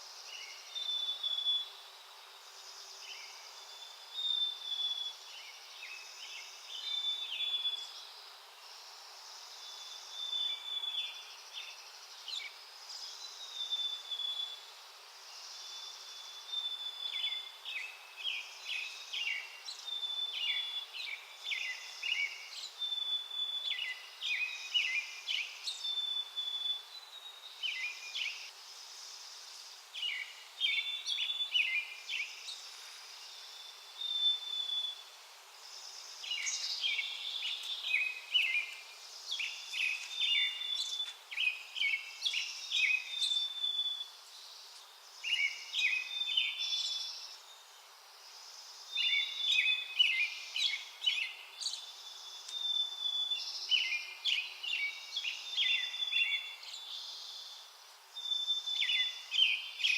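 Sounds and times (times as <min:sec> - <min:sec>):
faint steady hiss: 0:00.0 - 0:59.9
songbirds chirping: 0:00.0 - 0:59.9.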